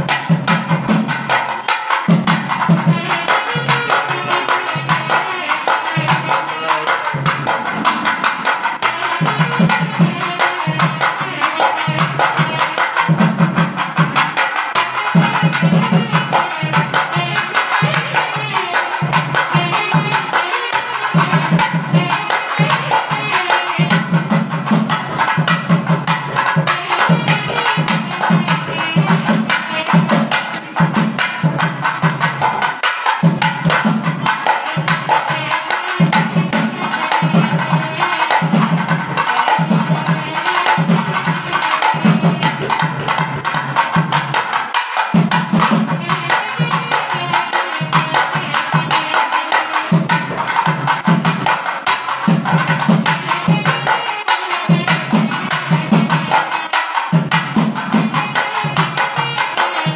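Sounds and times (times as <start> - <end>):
hand percussion: 0.0 - 59.9
steady drum rhythm: 0.0 - 59.9.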